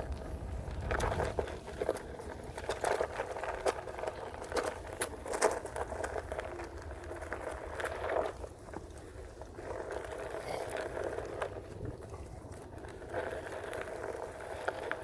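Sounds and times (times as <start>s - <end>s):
tyre crackling over gravel and twigs: 0.0s - 15.0s.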